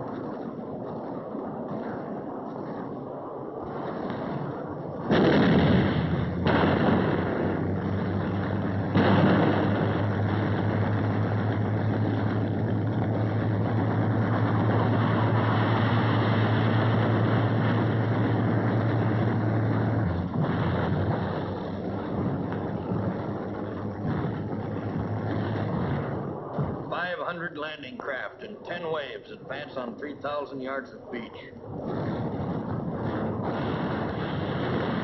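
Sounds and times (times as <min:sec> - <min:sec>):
landing craft engines droning: 0:00.0 - 0:35.0
loud blasts: 0:00.0 - 0:35.0.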